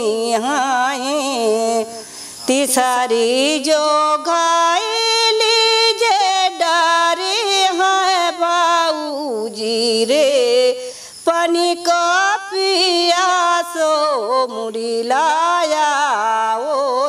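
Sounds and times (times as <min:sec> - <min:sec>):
woman singing solo: 0:00.0 - 0:17.0.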